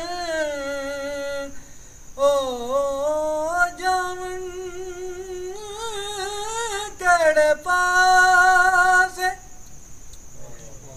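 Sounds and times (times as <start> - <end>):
man singing unaccompanied: 0.0 - 9.6
high insect trill: 0.0 - 10.9.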